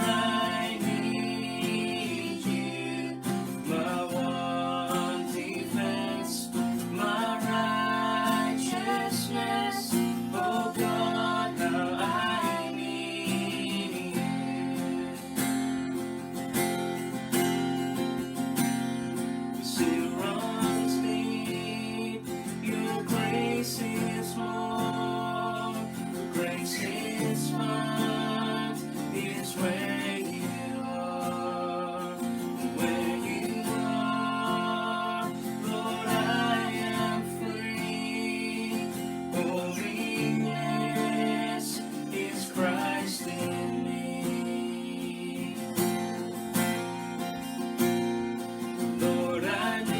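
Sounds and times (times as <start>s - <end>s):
person singing: 0.0s - 15.4s, 19.6s - 46.0s, 49.0s - 49.9s
strummed acoustic guitar: 0.0s - 49.9s.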